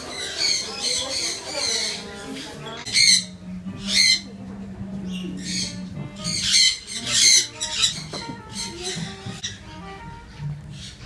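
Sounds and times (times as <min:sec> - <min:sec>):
birds squawking harshly: 0:00.0 - 0:04.4, 0:05.0 - 0:11.0
background music: 0:01.6 - 0:11.0.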